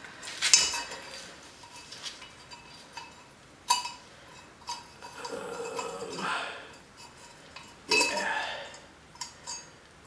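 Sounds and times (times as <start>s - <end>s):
light metal clicks and clinks: 0.5s - 5.9s, 6.7s - 9.8s.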